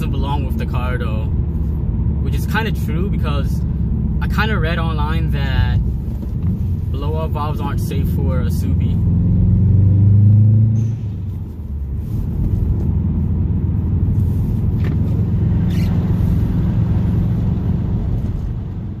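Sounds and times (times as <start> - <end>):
car engine pulling while driving: 0.0 - 19.0.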